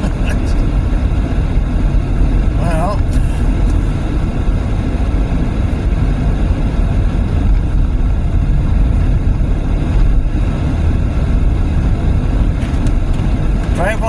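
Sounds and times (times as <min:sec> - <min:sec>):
car cabin road and engine rumble: 0:00.0 - 0:14.0.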